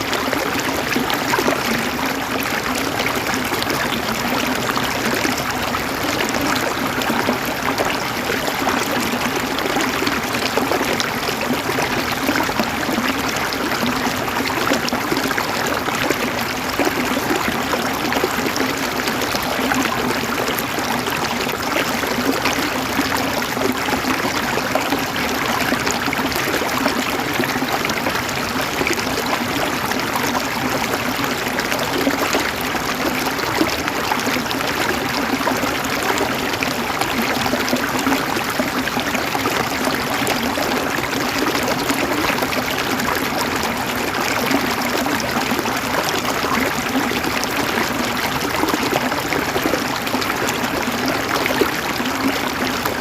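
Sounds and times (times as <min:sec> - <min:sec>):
river water flowing: 0:00.0 - 0:53.0.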